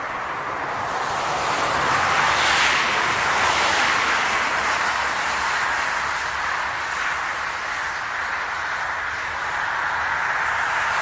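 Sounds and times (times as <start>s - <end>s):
vehicle passing at speed: 0.0s - 11.0s.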